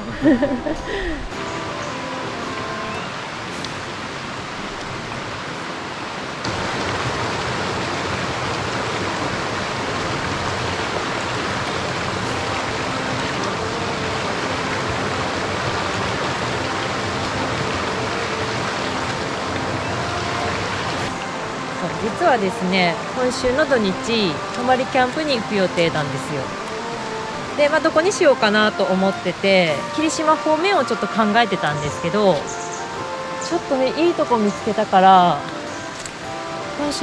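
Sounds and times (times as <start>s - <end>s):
water rushing over a weir: 0.0s - 37.0s.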